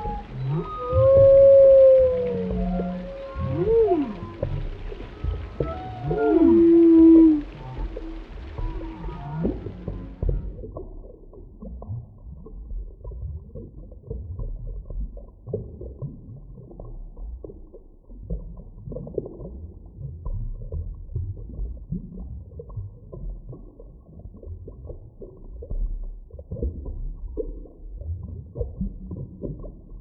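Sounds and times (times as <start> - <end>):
low underwater rumble: 0.0 - 30.0.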